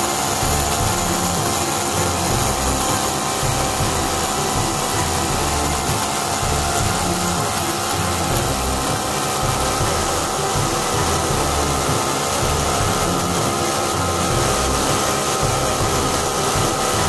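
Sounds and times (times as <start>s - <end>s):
model engine running: 0.0s - 17.0s.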